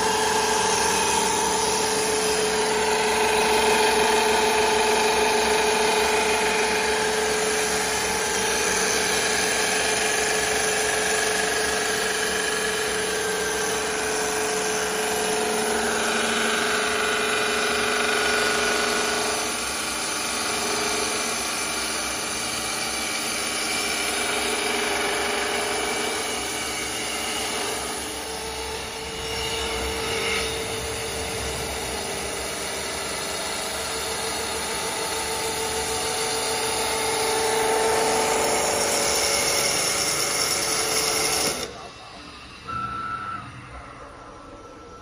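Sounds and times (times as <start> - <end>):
wood lathe humming: 0.0 - 42.7.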